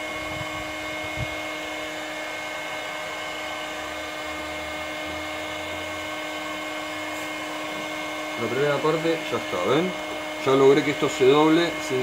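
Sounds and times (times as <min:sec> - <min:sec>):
heat gun fan humming: 0:00.0 - 0:12.0.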